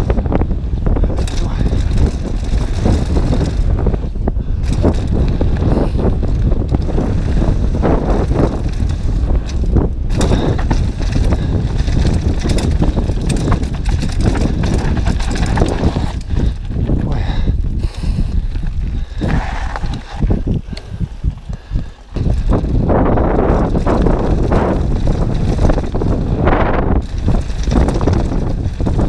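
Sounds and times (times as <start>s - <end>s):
bike rattling over bumps: 0.0s - 29.0s
bike tyres crunching on gravel: 0.0s - 29.0s
wind rumbling on microphone: 0.0s - 29.0s.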